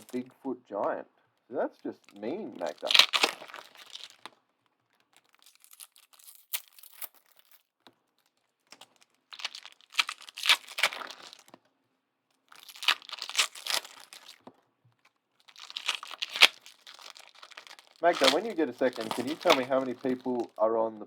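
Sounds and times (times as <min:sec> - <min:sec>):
card pack wrappers tearing and crinkling: 0:00.0 - 0:00.3, 0:01.8 - 0:11.6, 0:12.5 - 0:20.7.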